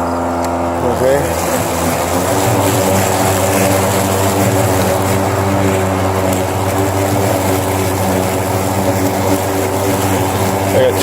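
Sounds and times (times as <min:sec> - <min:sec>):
electric lawn mower humming: 0:00.0 - 0:11.0.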